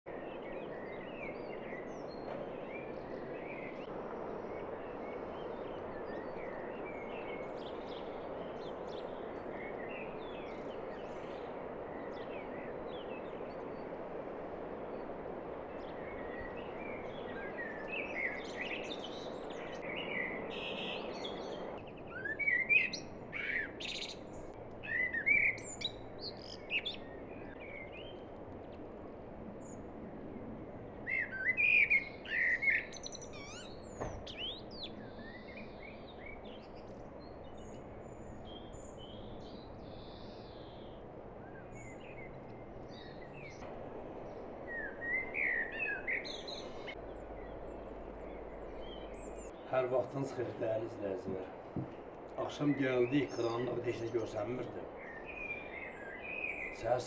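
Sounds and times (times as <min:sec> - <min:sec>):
songbirds chirping: 0:00.1 - 0:57.0
steady rushing noise: 0:00.1 - 0:57.0.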